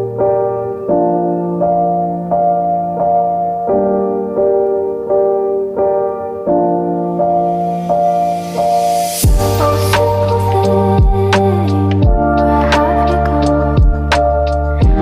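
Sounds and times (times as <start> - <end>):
gentle electric piano tune: 0.0 - 15.0.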